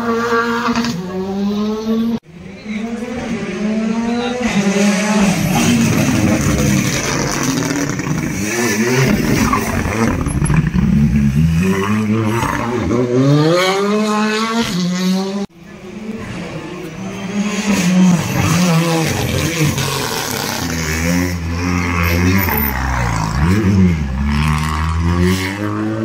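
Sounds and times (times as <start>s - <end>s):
rally car engines revving past: 0.0s - 26.0s.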